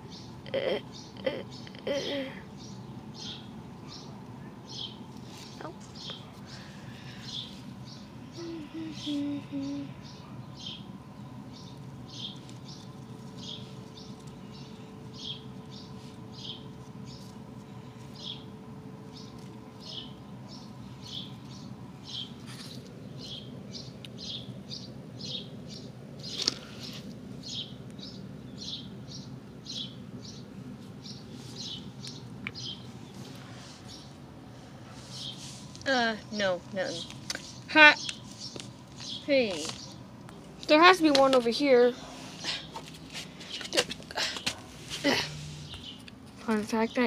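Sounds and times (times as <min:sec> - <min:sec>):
small bird chirping: 0:00.9 - 0:18.5, 0:19.1 - 0:34.2, 0:35.1 - 0:40.7, 0:45.0 - 0:47.0.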